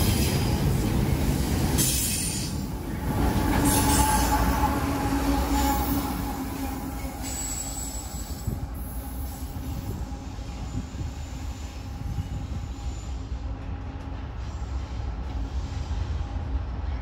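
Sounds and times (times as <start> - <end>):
diesel locomotive running: 0.0 - 17.0
rumble of wheels on rail: 0.0 - 17.0.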